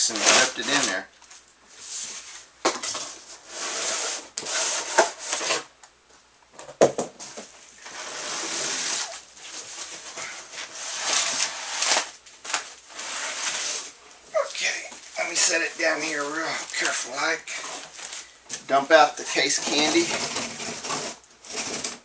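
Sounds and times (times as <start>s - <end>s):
cardboard boxes scraping: 0.0s - 1.1s, 1.7s - 5.7s, 7.2s - 22.0s.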